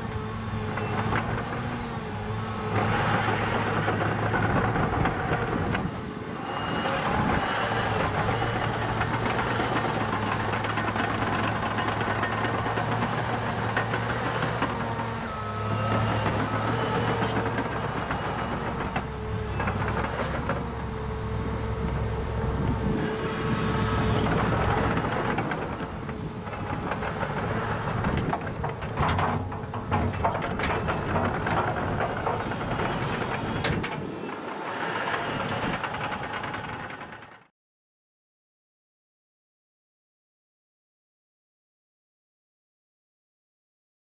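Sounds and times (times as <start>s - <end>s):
track loader diesel engine: 0.0s - 37.5s
tracks clicking and clanking: 0.0s - 37.5s.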